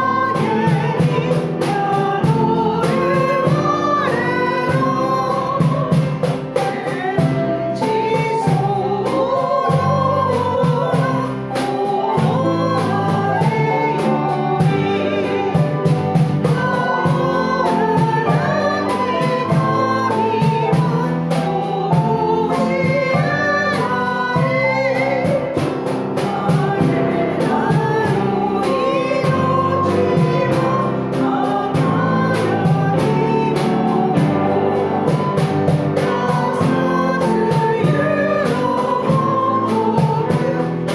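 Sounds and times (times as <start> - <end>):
congregation singing a hymn: 0.0 - 40.9
instrumental accompaniment chords: 0.0 - 40.9.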